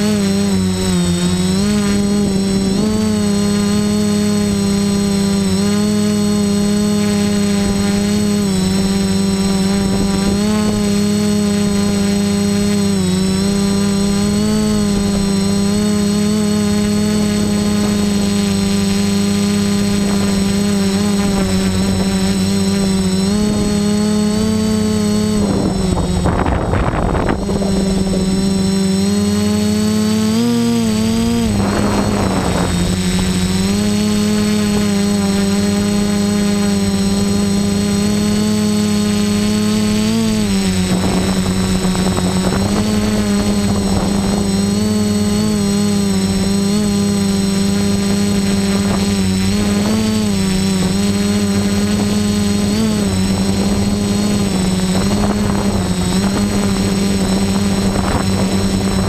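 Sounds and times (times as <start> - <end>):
drone motors and propellers whining: 0.0 - 59.0
wind noise rushes: 7.3 - 38.6, 39.5 - 59.0.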